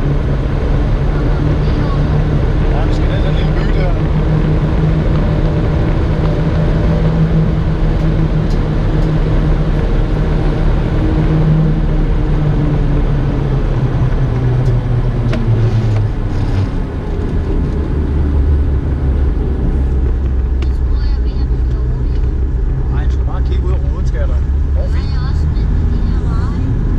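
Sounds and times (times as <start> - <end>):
car engine running: 0.0 - 26.9
road noise: 0.0 - 26.9.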